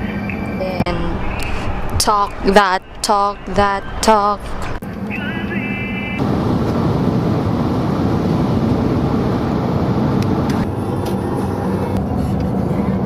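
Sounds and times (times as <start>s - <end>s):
car driving rumble: 0.8s - 13.0s.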